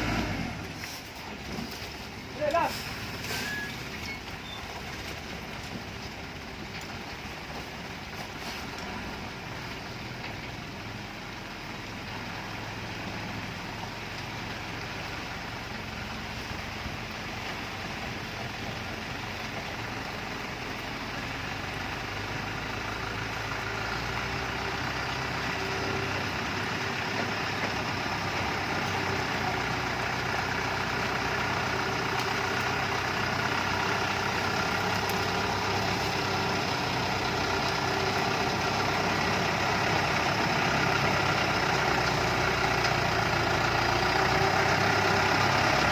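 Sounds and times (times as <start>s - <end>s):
heavy truck engine running: 0.0s - 45.9s.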